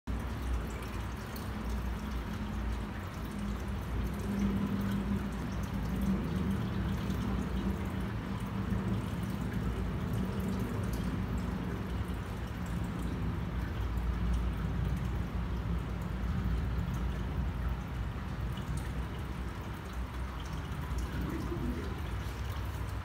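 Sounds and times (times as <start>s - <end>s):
constant low hum: 0.1s - 23.0s
water trickling and dripping: 0.1s - 23.0s.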